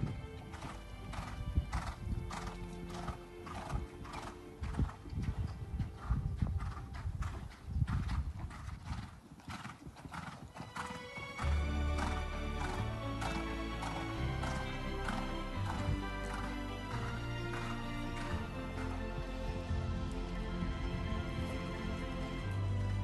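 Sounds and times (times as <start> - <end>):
background music: 0.0 - 7.7, 10.5 - 23.0
horse hoofbeats cantering: 0.0 - 23.0.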